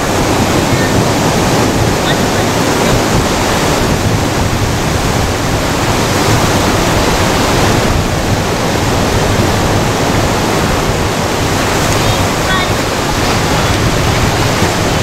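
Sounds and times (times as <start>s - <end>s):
ocean surf breaking on rocks: 0.0s - 15.0s.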